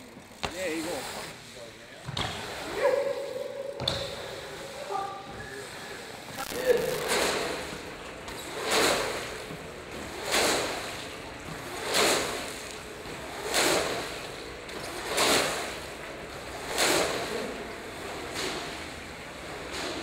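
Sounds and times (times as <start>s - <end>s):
bike tyres rolling on concrete: 0.0s - 20.0s.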